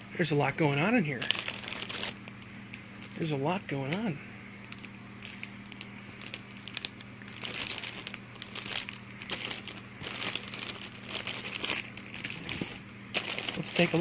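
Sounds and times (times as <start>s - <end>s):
plastic bags crinkling: 0.5s - 14.0s.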